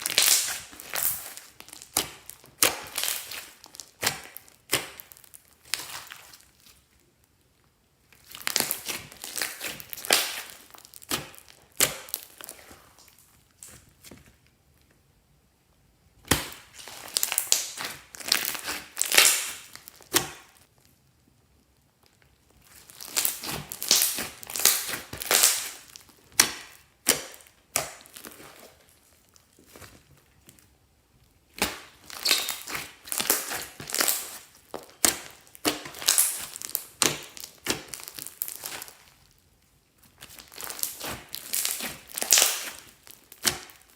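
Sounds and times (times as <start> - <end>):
slime squelching by hand: 0.0 - 14.1, 16.2 - 20.9, 22.0 - 43.9.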